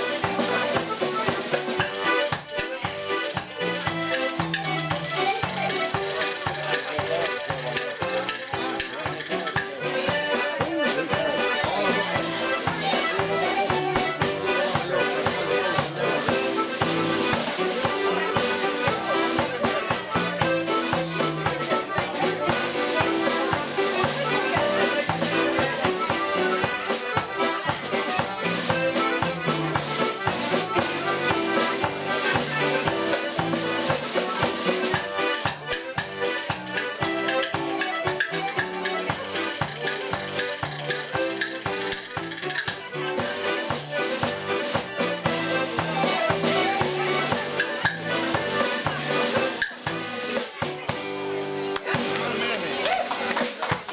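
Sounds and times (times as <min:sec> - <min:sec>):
snare drum played with sticks: 0:00.0 - 0:51.0
button accordion playing: 0:00.0 - 0:53.8.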